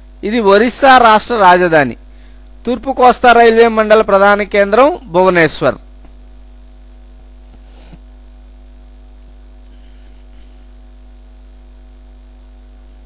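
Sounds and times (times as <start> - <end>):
electrical mains hum: 0.0 - 13.0
faint high ticking: 0.0 - 13.0.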